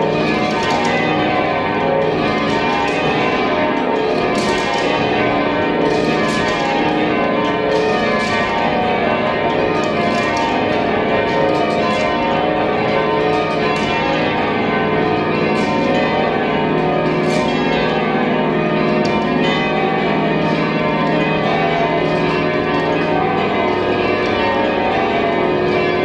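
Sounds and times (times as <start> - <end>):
church bells change ringing: 0.0 - 26.0.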